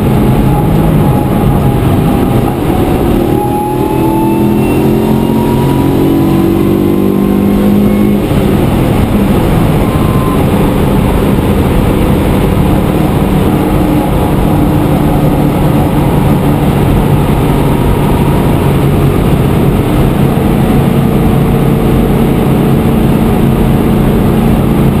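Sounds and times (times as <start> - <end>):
car engine from inside cabin: 0.0 - 25.0
road and wind noise: 0.0 - 25.0.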